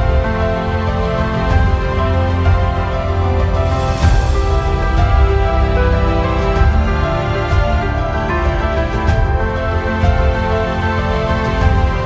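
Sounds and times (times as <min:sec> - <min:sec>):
deep bass: 0:00.0 - 0:12.0.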